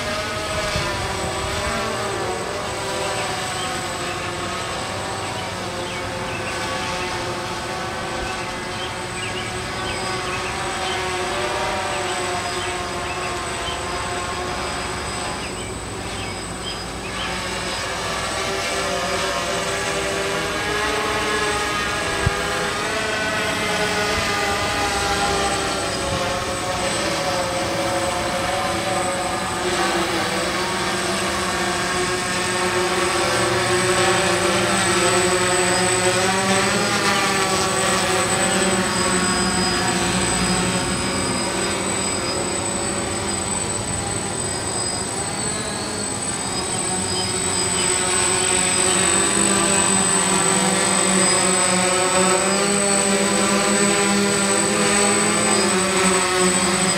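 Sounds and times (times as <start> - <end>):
drone propellers whirring: 0.0 - 56.9.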